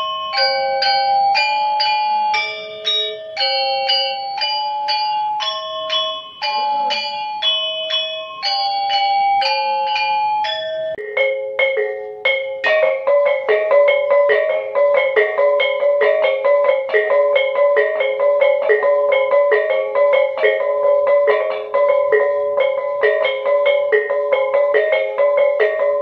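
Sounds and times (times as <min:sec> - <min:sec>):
metallophone struck with mallets: 0:00.0 - 0:26.0.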